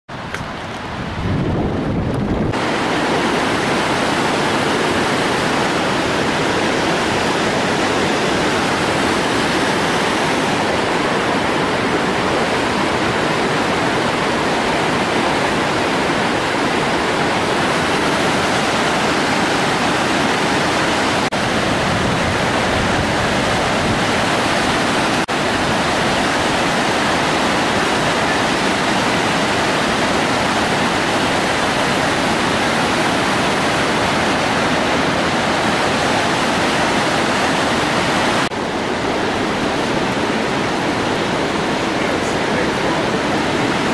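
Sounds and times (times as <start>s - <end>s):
waterfall rushing: 0.1s - 43.9s.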